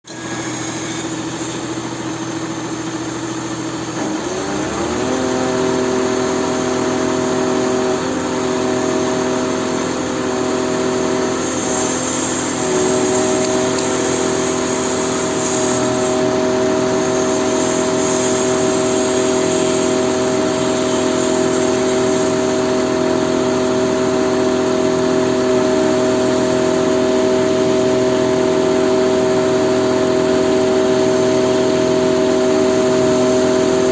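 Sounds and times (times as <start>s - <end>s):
engine running: 0.1s - 33.9s.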